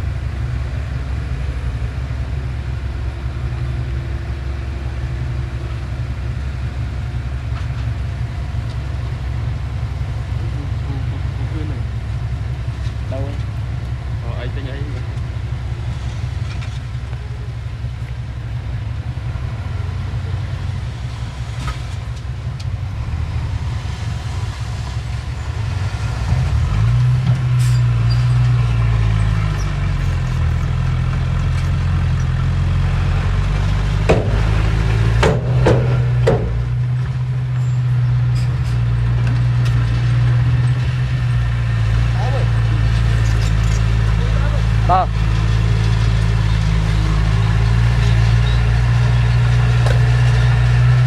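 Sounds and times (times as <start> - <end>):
diesel engine droning and revving: 0.0 - 51.0.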